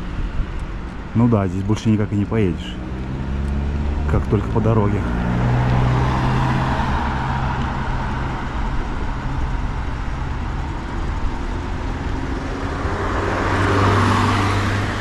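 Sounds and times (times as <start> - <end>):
tyre and road noise: 0.0 - 15.0
vehicle engine hum: 0.0 - 15.0.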